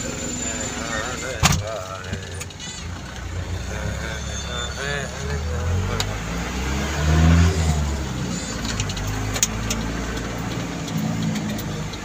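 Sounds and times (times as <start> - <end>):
road noise: 0.0 - 12.0
vehicle engine: 0.0 - 12.0.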